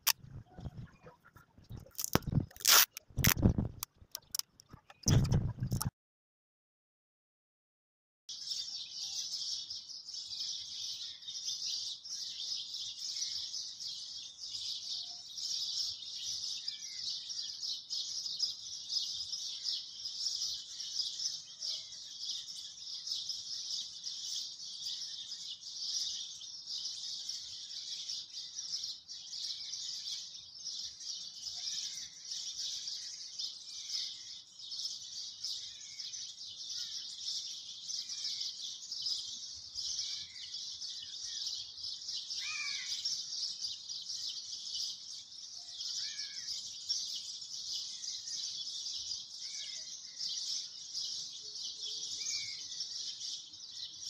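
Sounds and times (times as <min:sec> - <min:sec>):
small bird chirps: 0:08.3 - 0:54.0.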